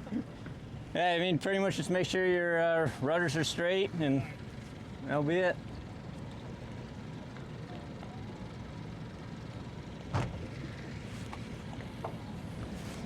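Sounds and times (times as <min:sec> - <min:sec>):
outboard motors running: 0:00.0 - 0:13.0.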